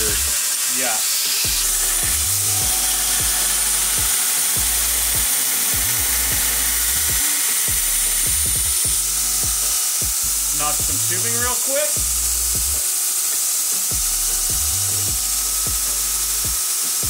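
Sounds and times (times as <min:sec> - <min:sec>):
high whine: 0:00.0 - 0:13.0, 0:13.9 - 0:16.7
belt grinder grinding metal: 0:00.0 - 0:17.0.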